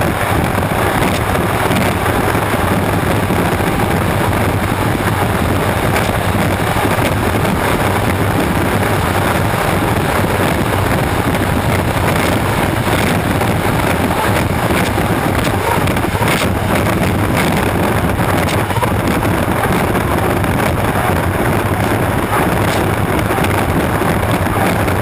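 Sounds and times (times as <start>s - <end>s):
hydroplane engine roar: 0.0s - 25.0s
wind buffeting microphone: 0.0s - 25.0s.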